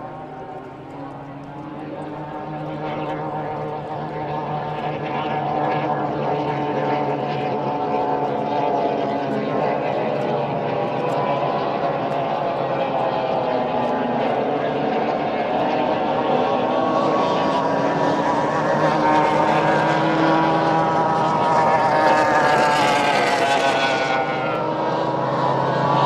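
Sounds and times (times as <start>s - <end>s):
powerboat engine at full throttle: 0.0s - 26.0s.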